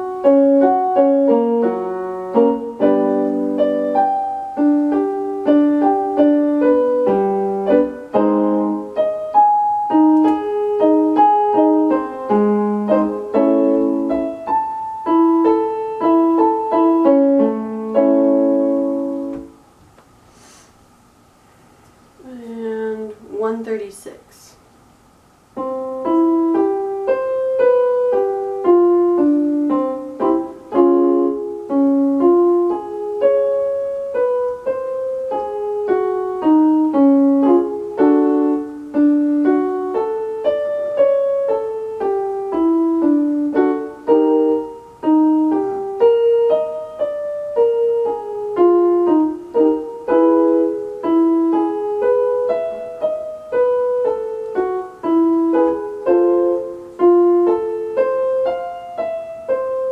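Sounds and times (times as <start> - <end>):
electronic keyboard piano melody: 0.0 - 19.7, 25.5 - 59.9.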